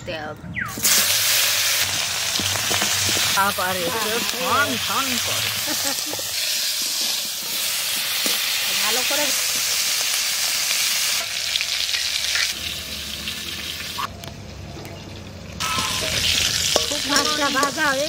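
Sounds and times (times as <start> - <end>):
fish sizzling in hot oil: 0.7 - 14.1, 15.2 - 18.0.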